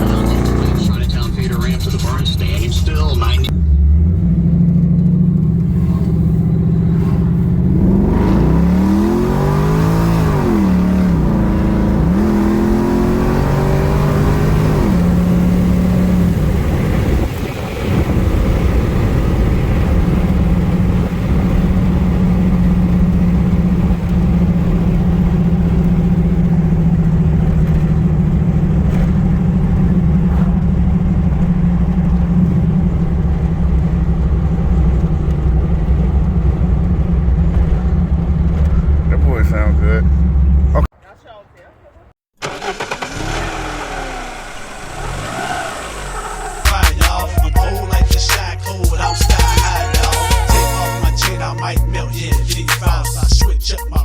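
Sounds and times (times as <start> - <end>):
car engine idling and revving: 0.0 - 40.9, 41.9 - 54.0.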